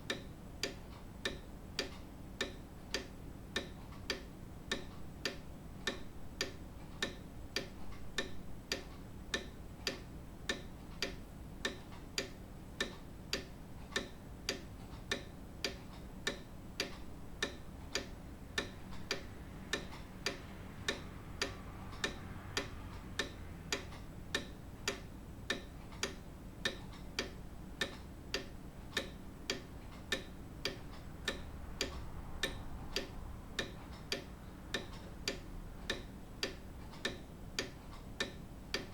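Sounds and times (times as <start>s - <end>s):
grandfather clock ticking: 0.0s - 38.9s.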